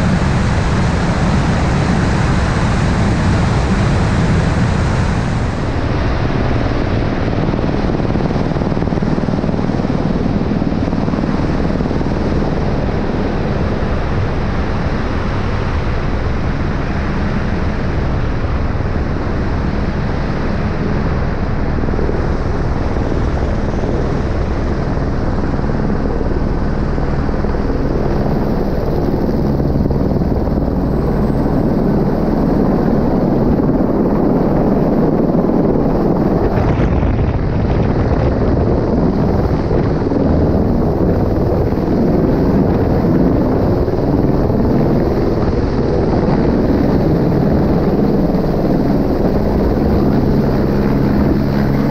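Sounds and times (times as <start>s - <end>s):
helicopter engine and rotor: 0.0s - 51.9s.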